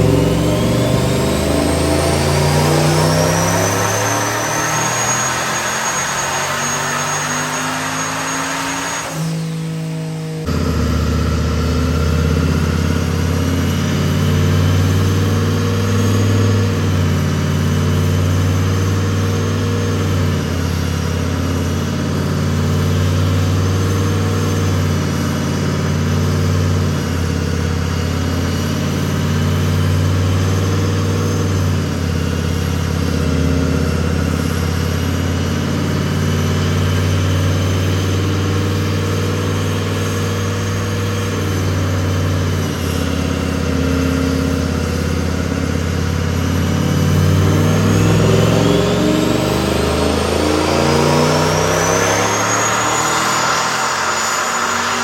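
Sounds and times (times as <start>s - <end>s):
truck engine running: 0.0s - 5.8s, 10.4s - 55.0s
thin high turbo whine: 0.0s - 11.6s, 12.6s - 55.0s.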